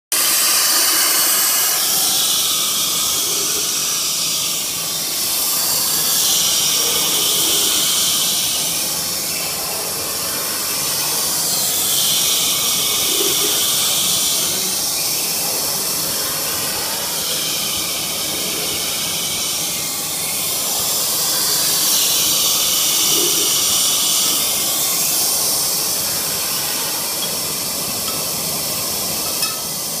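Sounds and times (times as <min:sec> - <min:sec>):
steam hissing: 0:00.1 - 0:30.0.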